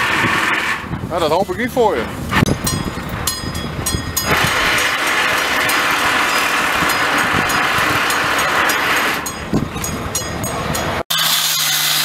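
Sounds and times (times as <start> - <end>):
rushing vehicle noise: 1.8 - 12.0.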